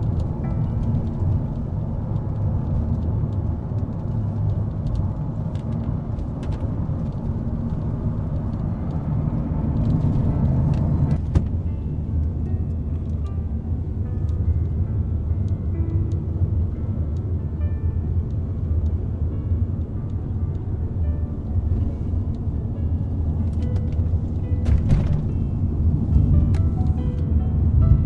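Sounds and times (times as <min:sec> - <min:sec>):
car tyre and engine rumble: 0:00.0 - 0:28.0.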